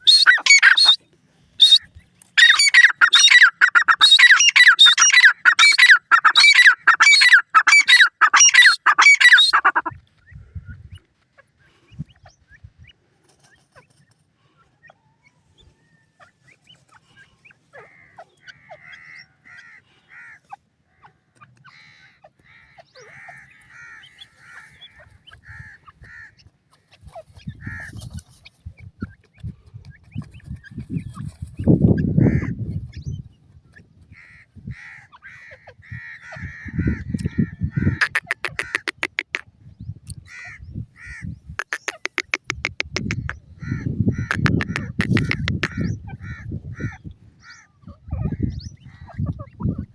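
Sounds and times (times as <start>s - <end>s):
chick peeps: 0.0s - 1.0s, 1.6s - 49.9s.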